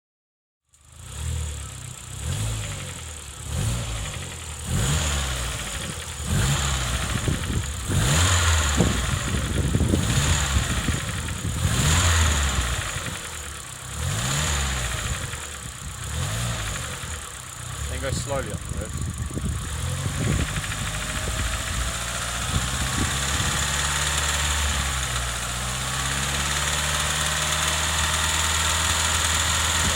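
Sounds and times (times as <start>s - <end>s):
car engine revving: 0.8s - 29.9s
engine knocking: 5.4s - 29.9s.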